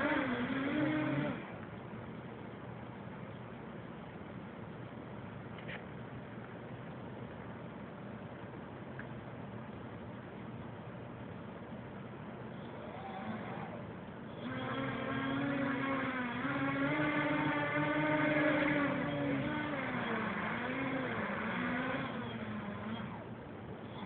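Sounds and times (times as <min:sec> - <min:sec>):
drone motors humming: 0:00.0 - 0:24.0.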